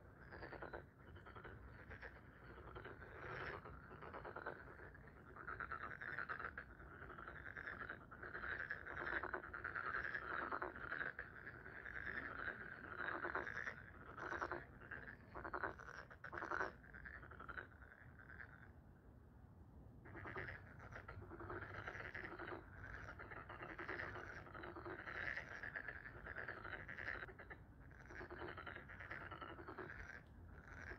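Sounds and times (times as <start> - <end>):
frogs croaking: 0.0 - 18.9, 20.0 - 30.9.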